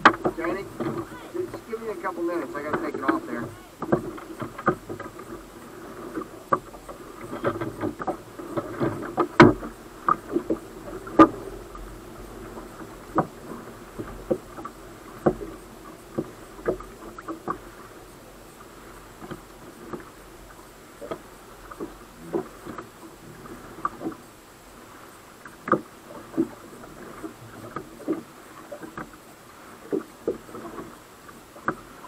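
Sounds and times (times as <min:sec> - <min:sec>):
waves slapping against hull: 0:00.0 - 0:32.0.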